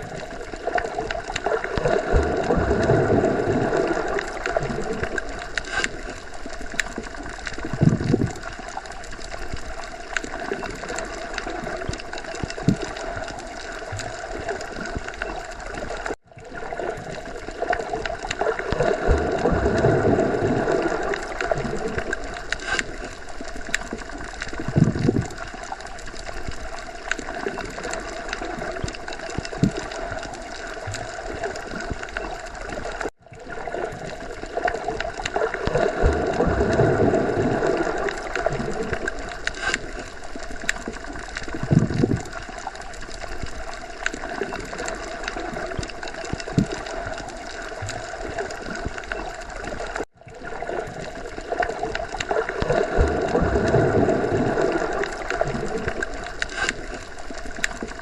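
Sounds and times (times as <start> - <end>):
underwater water wash: 0.0 - 58.0.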